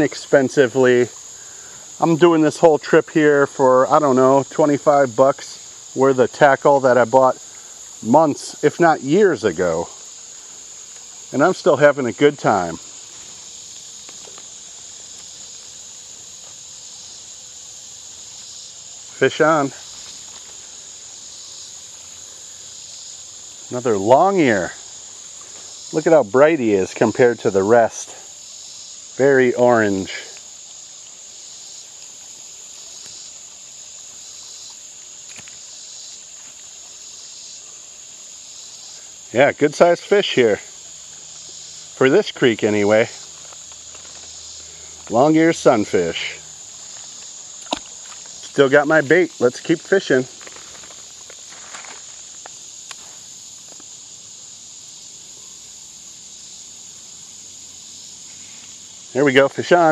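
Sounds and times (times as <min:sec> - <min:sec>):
high-pitched insect drone: 0:00.0 - 0:59.9
pulsing insect chorus: 0:00.0 - 0:59.9.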